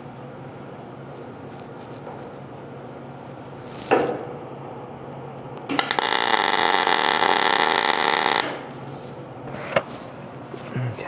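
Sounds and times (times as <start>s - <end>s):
arc welder crackling buzz: 0.0s - 10.6s.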